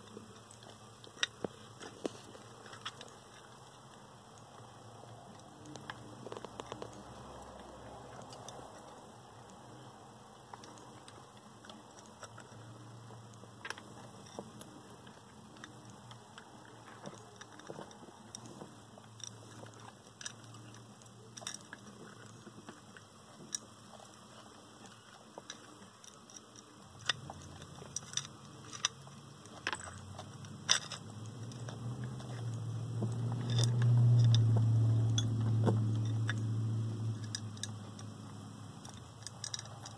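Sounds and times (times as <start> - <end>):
crab shells clicking and tapping: 0.0 - 39.9
low hum: 0.0 - 39.9.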